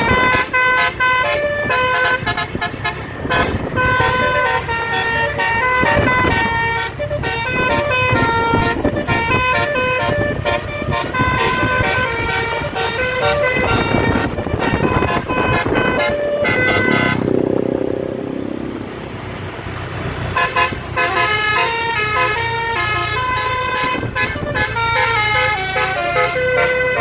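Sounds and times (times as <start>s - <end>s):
melodic bus air horn: 0.0s - 17.4s, 20.2s - 27.0s
vehicle noise: 0.0s - 27.0s.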